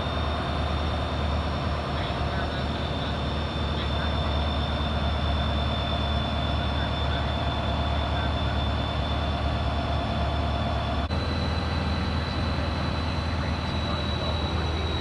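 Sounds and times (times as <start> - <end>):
diesel locomotive engine drone: 0.0 - 15.0
high whine: 0.0 - 15.0.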